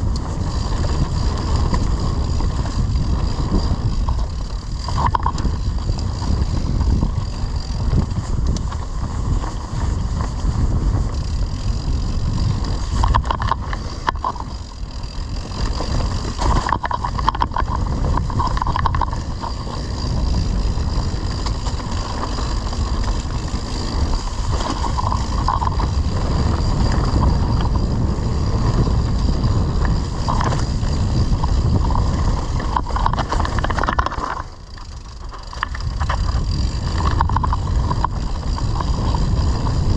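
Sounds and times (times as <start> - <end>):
bike rattling over bumps: 0.0 - 39.9
wind rushing over microphone: 0.0 - 39.9.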